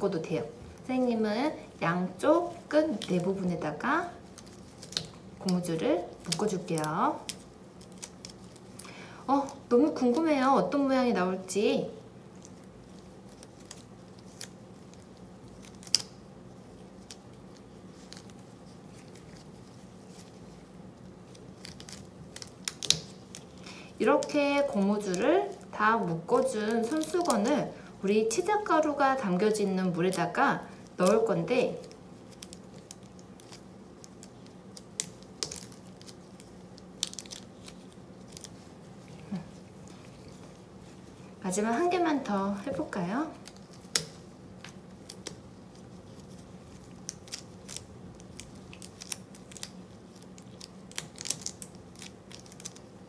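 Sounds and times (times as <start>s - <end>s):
faint steady hum: 0.0s - 53.0s
rubber bands rustling and ticking: 0.4s - 10.9s, 12.2s - 53.0s.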